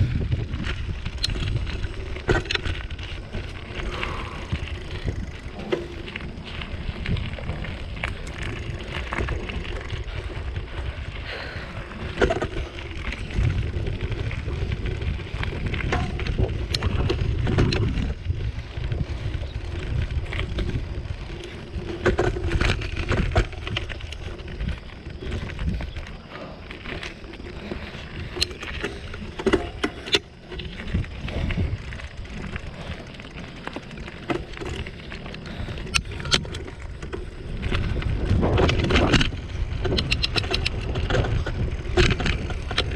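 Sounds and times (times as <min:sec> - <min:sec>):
bicycle tyres crunching on gravel: 0:00.0 - 0:42.9
bike rattling over bumps: 0:00.0 - 0:42.9
wind buffeting microphone: 0:00.0 - 0:42.9.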